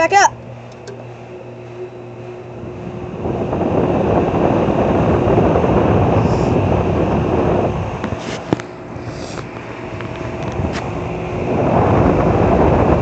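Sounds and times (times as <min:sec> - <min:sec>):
fan air rushing: 0:00.0 - 0:13.0
steady hum: 0:00.0 - 0:13.0.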